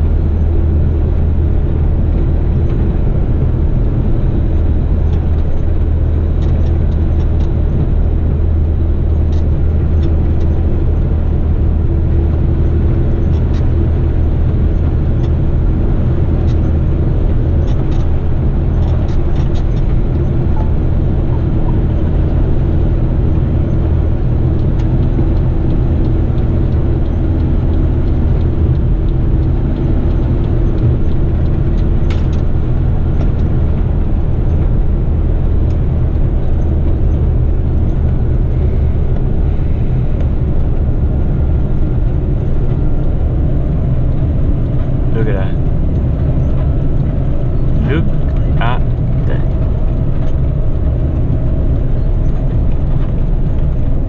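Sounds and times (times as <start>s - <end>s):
road noise: 0.0s - 54.0s
truck diesel engine running: 0.0s - 54.0s.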